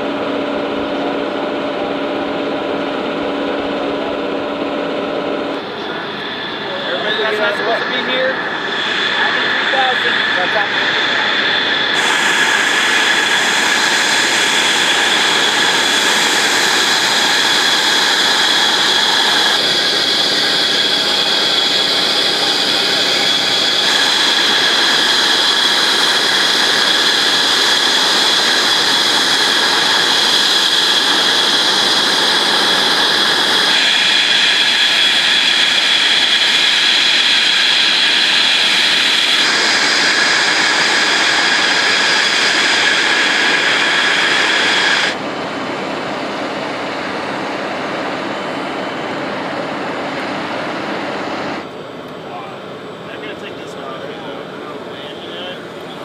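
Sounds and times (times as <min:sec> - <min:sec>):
jet engines running loud: 0:00.0 - 0:56.0.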